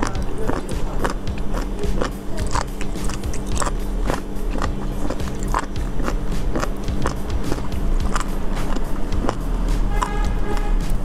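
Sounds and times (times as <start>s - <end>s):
close-miked chewing with wet smacks: 0.0s - 9.4s.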